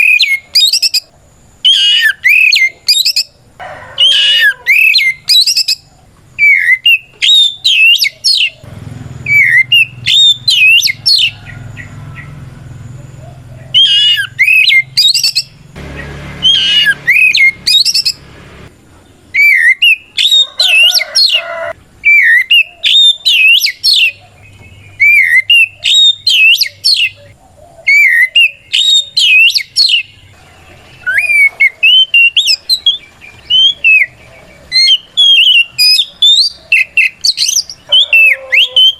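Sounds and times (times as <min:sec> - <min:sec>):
bird singing whistled notes: 0:00.0 - 0:03.4, 0:04.0 - 0:18.2, 0:19.4 - 0:21.0, 0:22.0 - 0:30.3, 0:30.9 - 0:38.9.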